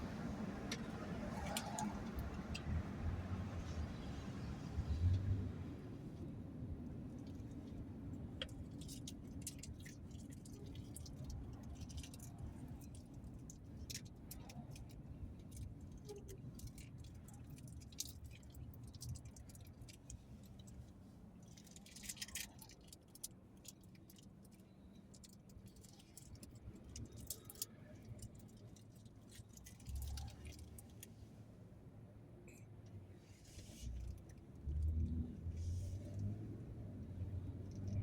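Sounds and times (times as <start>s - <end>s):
vehicle rumble from inside: 0.0s - 38.0s.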